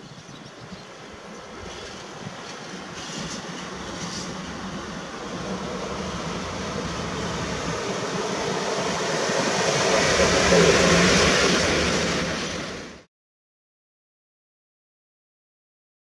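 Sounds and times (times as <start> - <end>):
locomotive low hum: 0.0 - 13.0
train wheels rumbling on rails: 0.0 - 13.1.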